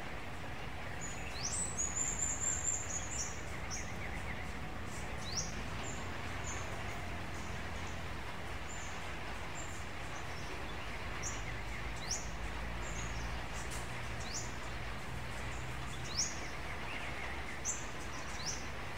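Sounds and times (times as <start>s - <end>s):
small birds chirping: 0.6s - 18.9s.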